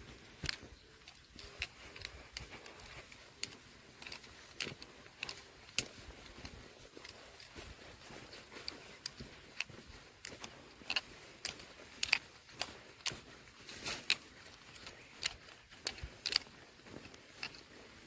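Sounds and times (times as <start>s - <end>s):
person breathing heavily: 0.0s - 18.0s
rustles: 0.0s - 18.0s
sharp clicks: 0.0s - 18.0s.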